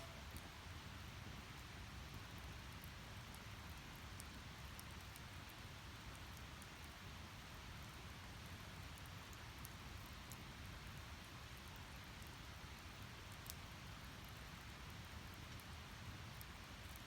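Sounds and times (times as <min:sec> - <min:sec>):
fire crackles and pops: 0:00.0 - 0:17.0.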